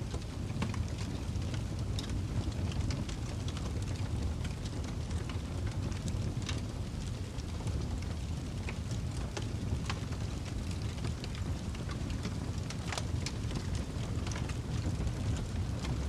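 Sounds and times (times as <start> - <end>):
burning wood crackling and popping: 0.0 - 16.0
low rumble of flames: 0.0 - 16.0.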